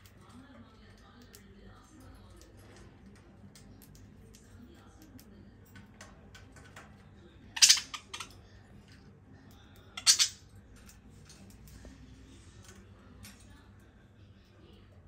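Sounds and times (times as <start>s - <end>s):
beaks and claws ticking on cage: 0.0s - 15.0s.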